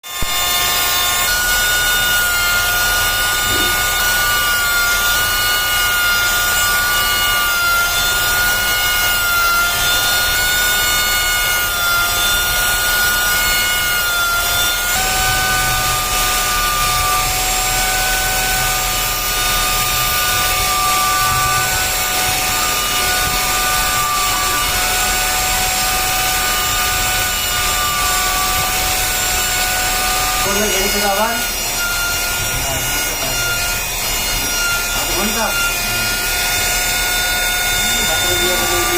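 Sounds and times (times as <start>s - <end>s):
high-speed power tool whine: 0.0s - 38.9s.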